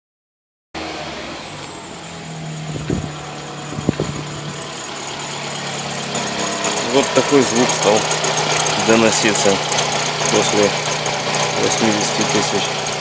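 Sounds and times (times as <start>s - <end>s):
car engine idling: 0.8s - 13.0s.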